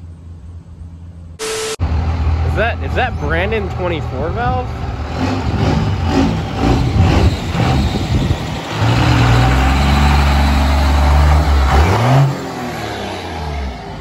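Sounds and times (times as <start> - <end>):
diesel pickup engine running: 1.8 - 14.0.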